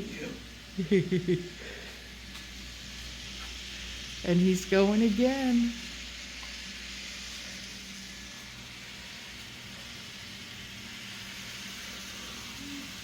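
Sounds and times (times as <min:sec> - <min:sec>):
model train motor whirring: 0:02.1 - 0:13.0.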